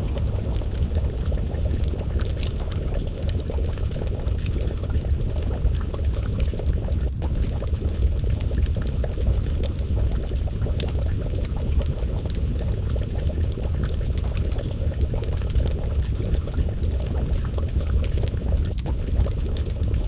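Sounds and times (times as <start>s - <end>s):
low rumble of fire: 0.0s - 20.0s
stew pot bubbling: 0.0s - 20.0s
wood fire crackling and popping: 0.0s - 20.0s.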